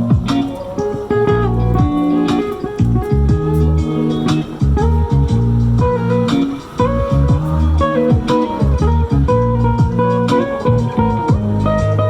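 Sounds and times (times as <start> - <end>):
live band playing guitar music: 0.0 - 12.0.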